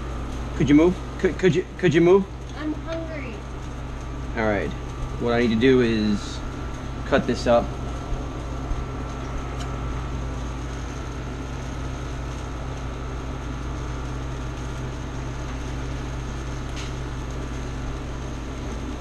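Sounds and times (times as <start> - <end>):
fan humming with faint whine: 0.0 - 19.0.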